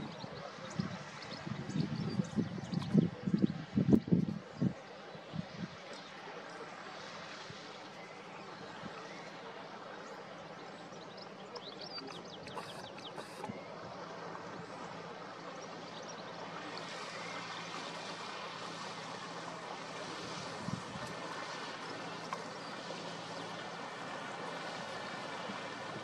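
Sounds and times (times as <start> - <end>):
boat engine humming: 0.0 - 26.0
water and wind noise: 0.0 - 26.0.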